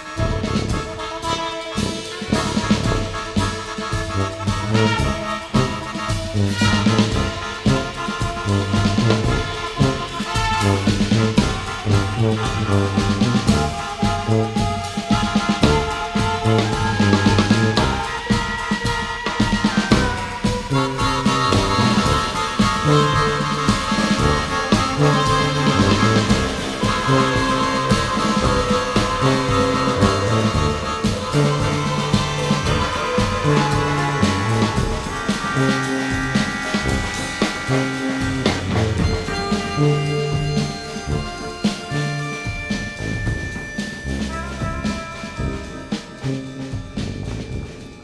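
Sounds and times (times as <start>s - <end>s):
baritone saxophone: 0.0s - 48.0s
drum kit: 0.0s - 48.0s
held horn notes: 0.0s - 48.0s
keyboards: 0.0s - 48.0s
trumpets: 0.0s - 48.0s
tuba: 0.0s - 48.0s
low bass line: 1.8s - 18.3s, 19.9s - 48.0s.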